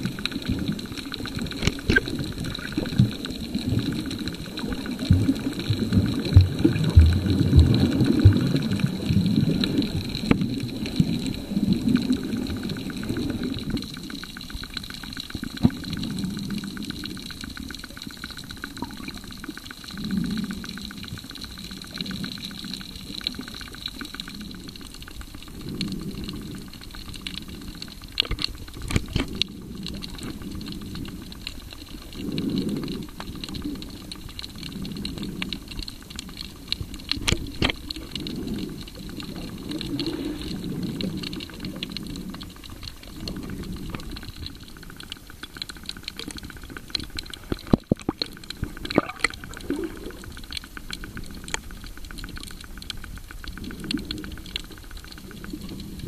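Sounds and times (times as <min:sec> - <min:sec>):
muffled underwater water rush: 0:00.0 - 0:56.0
underwater clicks: 0:00.0 - 0:56.0.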